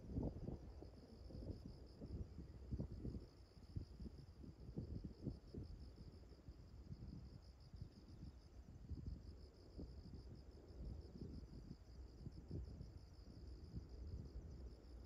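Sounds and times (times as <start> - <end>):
insect chirping trill: 0.0 - 15.0.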